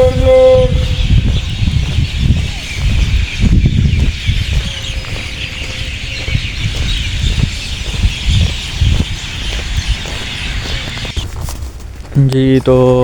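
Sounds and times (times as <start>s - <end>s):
small birds chirping: 0.0s - 13.0s
wind buffeting microphone: 0.0s - 13.0s.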